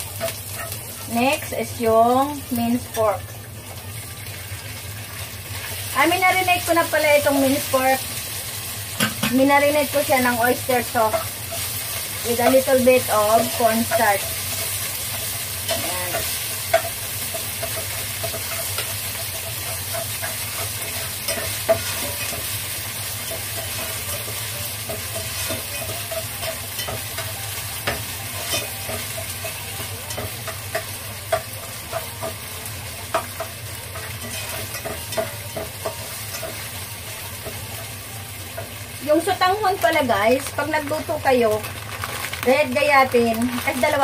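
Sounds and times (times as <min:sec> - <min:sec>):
meat sizzling in oil: 0:00.0 - 0:44.0.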